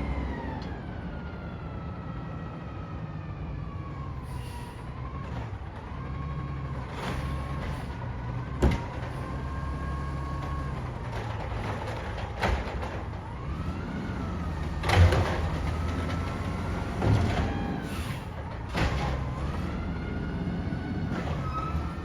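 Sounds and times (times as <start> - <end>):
garbage truck engine running: 0.0 - 22.0.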